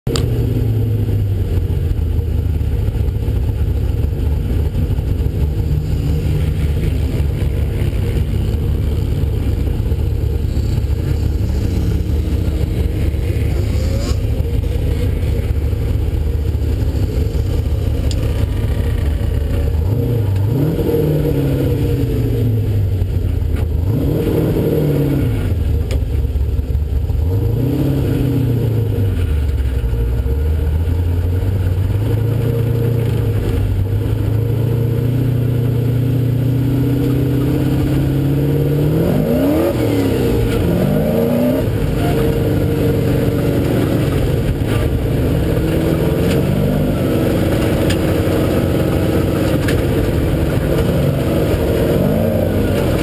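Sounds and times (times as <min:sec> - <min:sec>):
vehicle engine idling and revving: 0:00.0 - 0:53.0.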